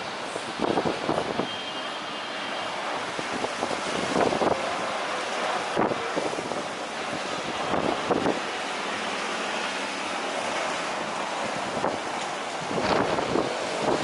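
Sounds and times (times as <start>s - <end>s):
wind buffeting microphone: 0.0s - 1.5s, 2.8s - 14.0s.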